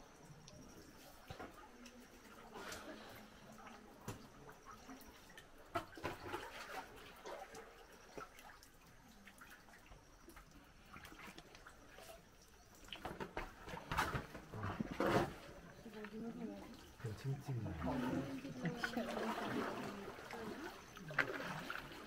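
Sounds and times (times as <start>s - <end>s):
paddle splashes and drips: 0.1s - 22.0s.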